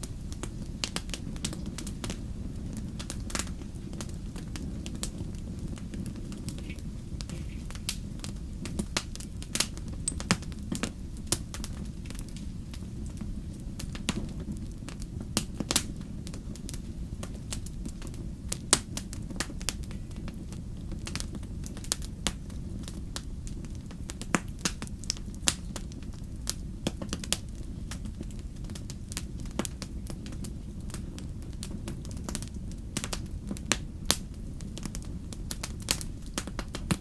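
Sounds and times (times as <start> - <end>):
low rumble of flames: 0.0 - 37.0
wood fire crackling and popping: 0.0 - 37.0.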